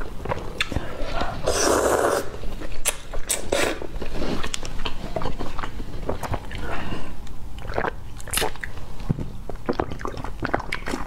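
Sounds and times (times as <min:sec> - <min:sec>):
mouth clicks and smacks: 0:00.0 - 0:11.0
noodles slurped and chewed: 0:00.0 - 0:11.0.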